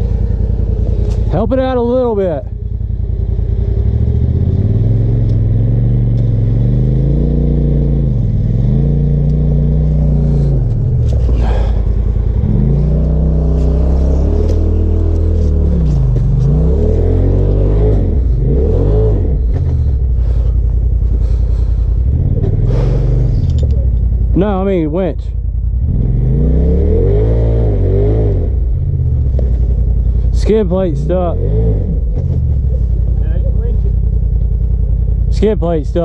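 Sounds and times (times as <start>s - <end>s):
engine revving under load: 0.0s - 36.0s.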